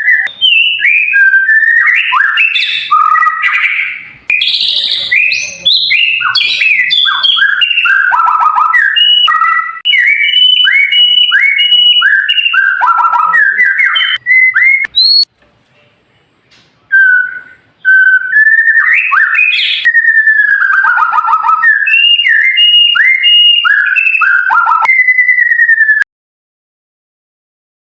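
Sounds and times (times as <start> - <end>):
bird singing whistled notes: 0.0 - 15.3, 16.9 - 26.1.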